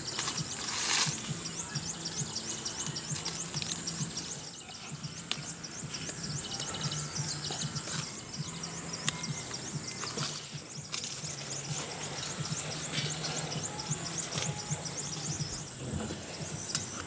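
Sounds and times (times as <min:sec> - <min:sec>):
high chirps: 0:00.0 - 0:17.0.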